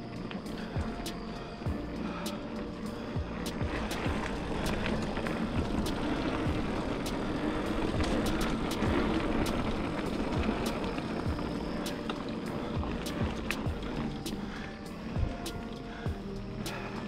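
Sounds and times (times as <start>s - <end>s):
bike clicks and rattles: 0.0s - 17.0s
bike tyres rumbling on dirt: 0.0s - 17.0s
wind: 0.0s - 17.0s.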